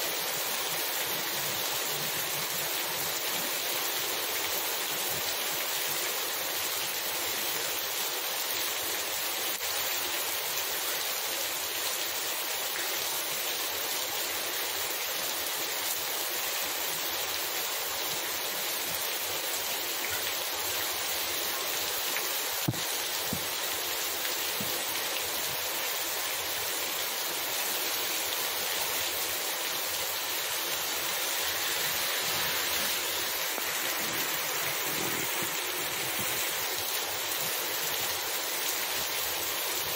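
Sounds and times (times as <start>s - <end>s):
heavy rain on street and roofs: 0.0s - 39.9s.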